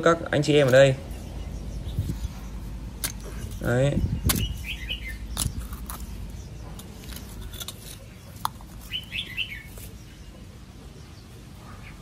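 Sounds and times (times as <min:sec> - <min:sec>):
small bird chirping: 0:00.6 - 0:12.0.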